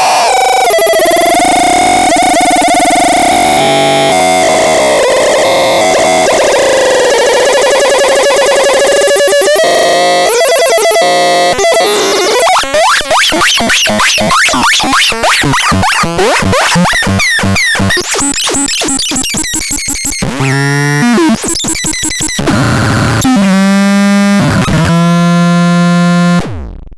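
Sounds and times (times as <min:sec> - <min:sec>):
synthesizer tones: 0:00.0 - 0:26.4.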